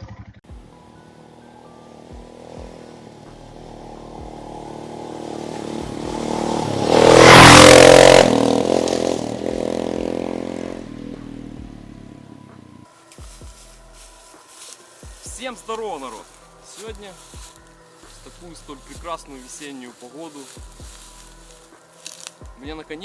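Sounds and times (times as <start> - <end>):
motorcycle riding past: 0.0 - 12.9, 15.5 - 22.5.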